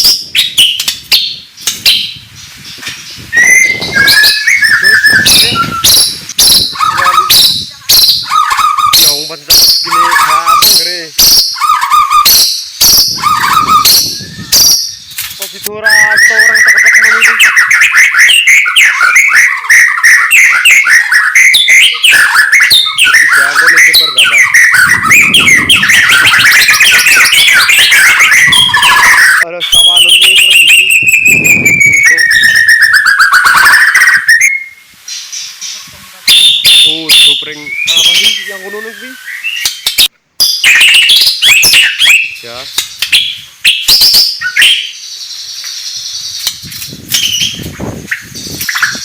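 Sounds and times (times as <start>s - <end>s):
songbird singing loudly: 0.0s - 49.0s.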